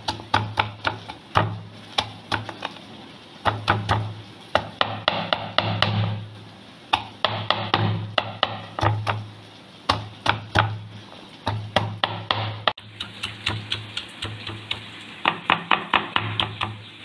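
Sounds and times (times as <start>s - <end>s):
pestle pounding on wooden board: 0.0s - 2.8s, 3.4s - 6.3s, 6.9s - 9.3s, 9.9s - 10.8s, 11.4s - 16.8s.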